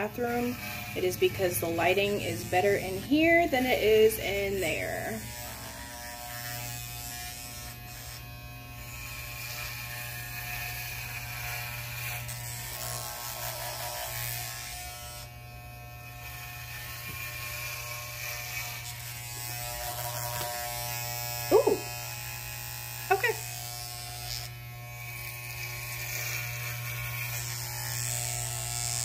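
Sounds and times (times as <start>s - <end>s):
electric hair clippers buzzing: 0.0s - 29.0s.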